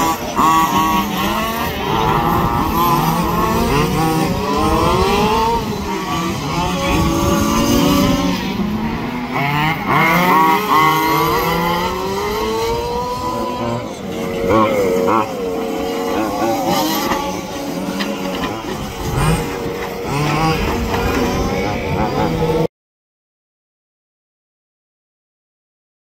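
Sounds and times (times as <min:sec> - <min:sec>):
model truck engines revving: 0:00.0 - 0:22.7.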